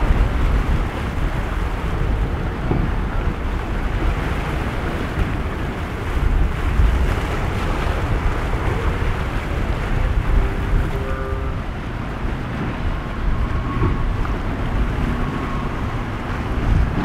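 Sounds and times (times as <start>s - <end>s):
waves and surf: 0.0s - 17.0s
wind buffeting microphone: 0.0s - 17.0s.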